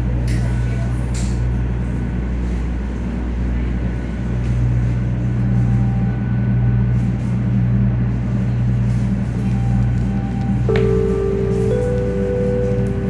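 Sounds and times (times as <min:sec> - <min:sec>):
train rumbling from inside: 0:00.0 - 0:13.0.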